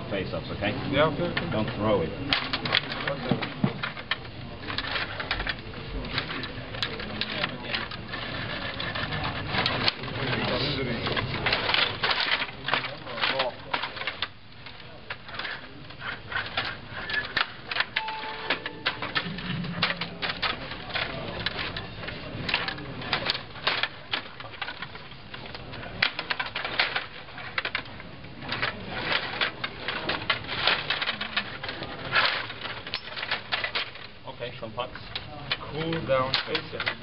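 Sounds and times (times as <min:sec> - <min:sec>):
table hockey plastic clacking: 0:01.2 - 0:37.0.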